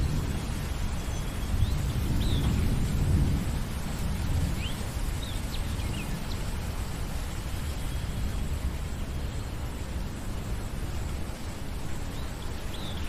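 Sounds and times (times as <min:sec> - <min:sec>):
rain falling on a lake: 0:00.0 - 0:13.0.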